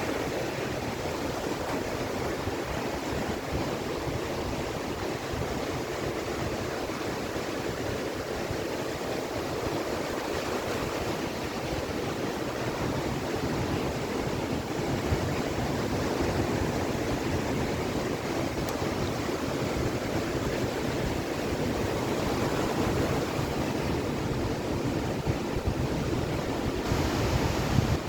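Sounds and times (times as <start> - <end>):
ocean waves breaking on beach: 0.0 - 28.0.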